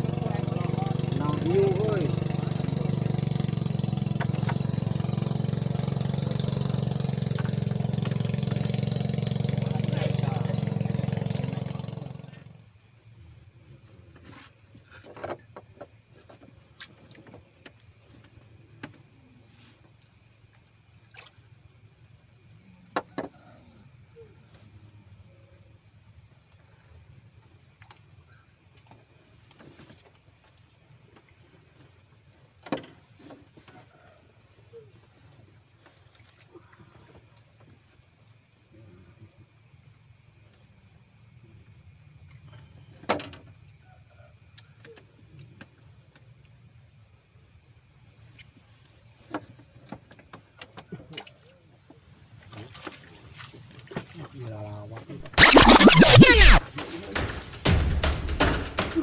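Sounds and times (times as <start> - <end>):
insect chirping: 0.0 - 48.9.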